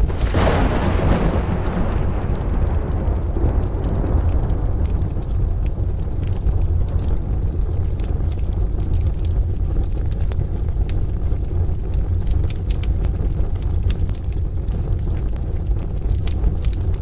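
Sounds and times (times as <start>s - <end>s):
steady low rumble: 0.0s - 17.0s
wood fire crackling: 0.0s - 17.0s.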